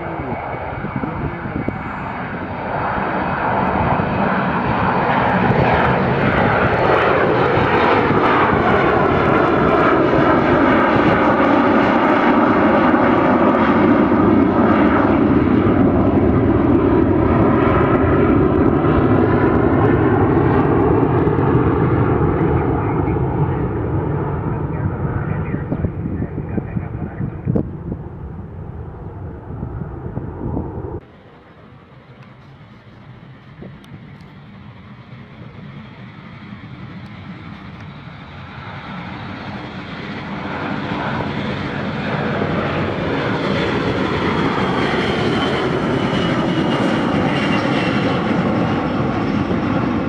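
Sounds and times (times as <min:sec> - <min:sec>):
aircraft engines roaring: 0:00.0 - 0:50.0.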